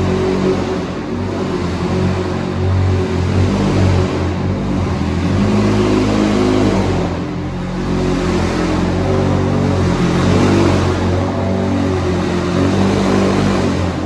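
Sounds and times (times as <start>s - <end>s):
supercar engine running loudly: 0.0s - 14.0s.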